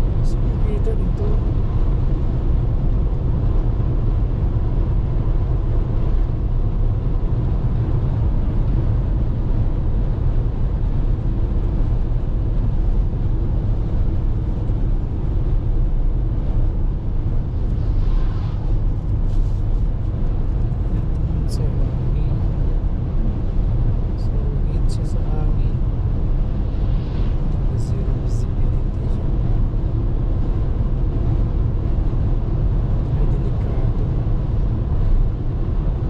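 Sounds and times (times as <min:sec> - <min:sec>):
car tyres and engine on wet road: 0:00.0 - 0:36.0.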